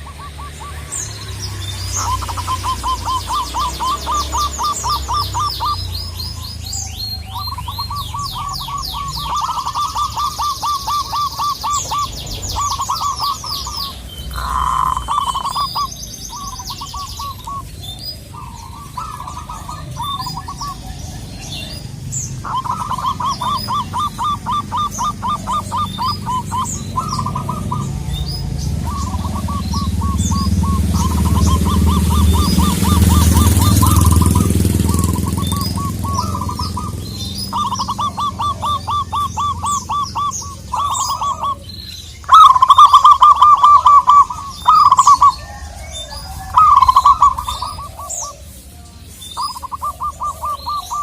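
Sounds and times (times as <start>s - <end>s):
doves cooing: 0.0s - 51.0s
small birds chirping: 0.0s - 51.0s.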